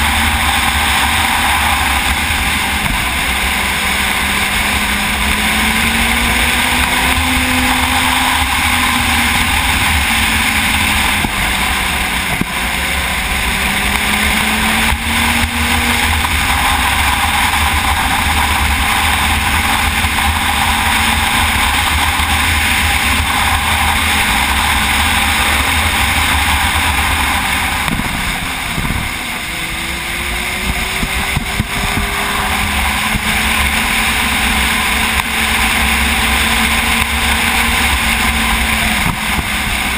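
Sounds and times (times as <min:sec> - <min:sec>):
motorcycle engine: 0:00.0 - 0:39.9
wind rushing on microphone: 0:00.0 - 0:39.9.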